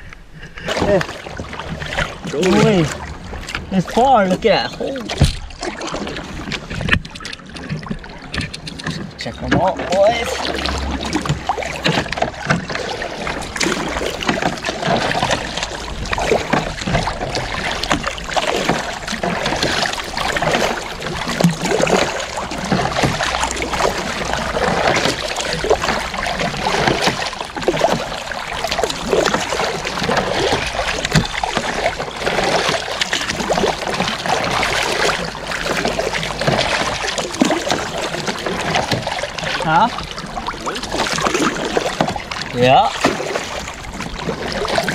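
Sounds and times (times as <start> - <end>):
kayak paddle strokes in water: 0.0 - 44.9
water trickling along hull: 0.0 - 44.9.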